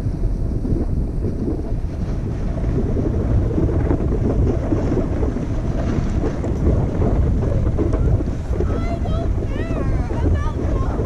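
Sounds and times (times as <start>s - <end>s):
skis sliding over snow: 0.0s - 11.0s
wind buffeting microphone: 0.0s - 11.0s.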